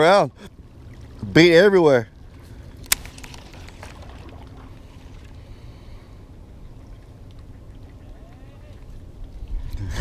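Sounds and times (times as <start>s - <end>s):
small waves lapping against rocks: 0.0s - 9.8s
low steady rumble: 0.0s - 10.0s.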